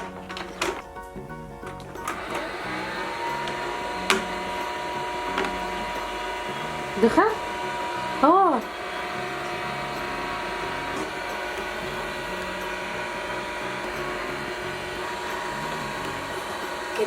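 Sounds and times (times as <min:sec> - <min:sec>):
toy vacuum motor whining: 0:01.6 - 0:17.0.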